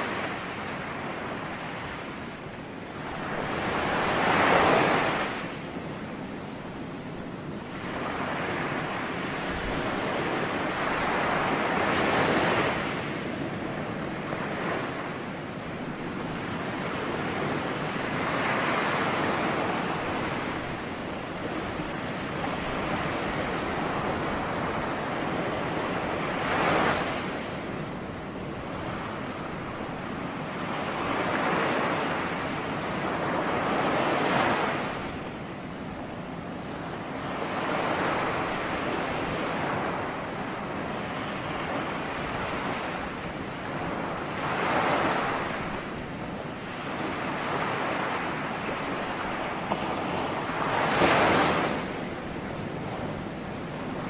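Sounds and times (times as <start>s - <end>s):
ocean waves breaking: 2.9s - 5.6s, 7.6s - 54.0s.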